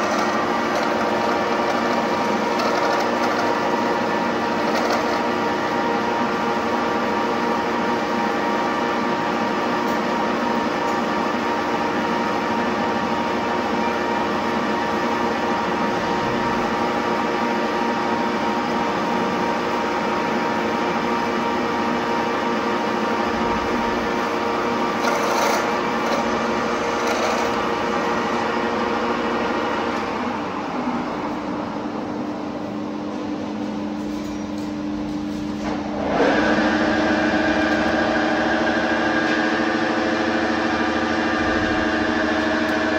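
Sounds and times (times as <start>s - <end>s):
metal lathe humming with gear whine: 0.0s - 34.0s, 35.9s - 42.9s.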